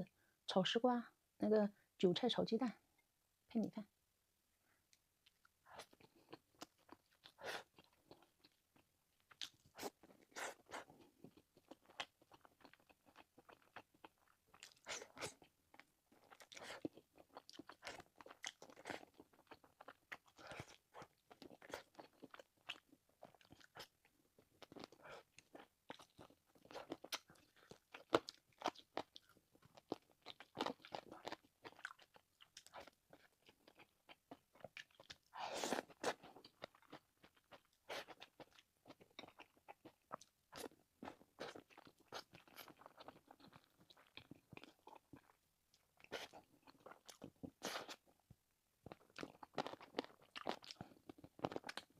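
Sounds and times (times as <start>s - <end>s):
person chewing and smacking: 5.2s - 48.2s, 48.8s - 51.9s.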